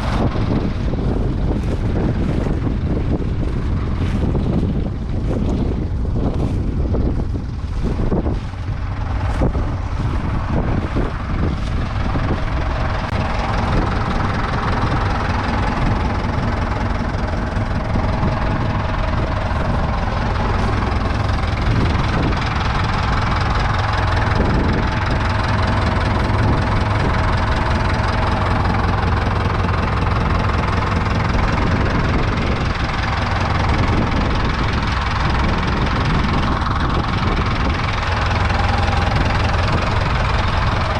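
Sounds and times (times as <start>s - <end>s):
diesel tractor engines humming: 0.0s - 40.9s
wind buffeting microphone: 0.0s - 40.9s.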